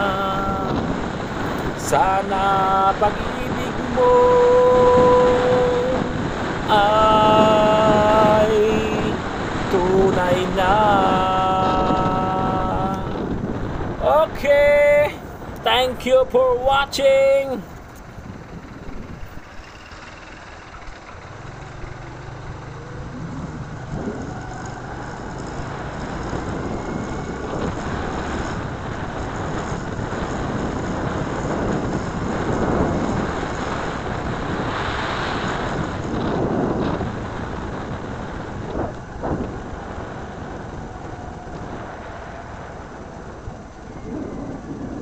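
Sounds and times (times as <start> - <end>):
road noise: 0.0 - 45.0
wind rushing over microphone: 0.0 - 45.0.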